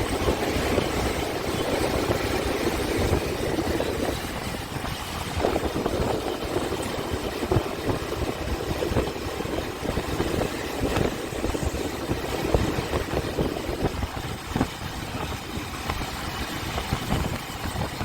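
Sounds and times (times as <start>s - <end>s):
motorcycle running: 0.0s - 18.0s.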